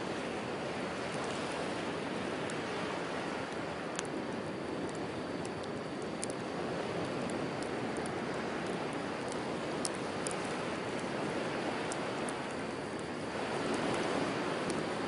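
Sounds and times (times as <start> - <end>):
campfire crackling and popping: 0.0 - 15.0
ocean waves on shore: 0.0 - 15.0.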